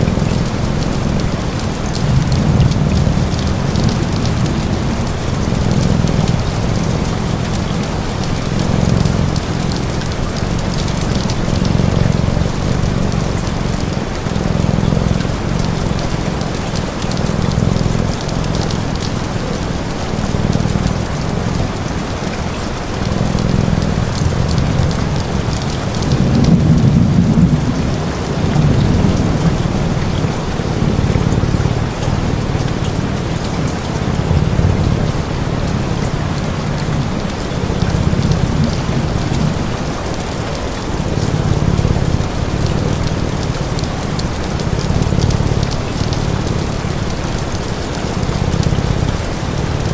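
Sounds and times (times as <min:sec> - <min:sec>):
rain falling on surface: 0:00.0 - 0:49.9.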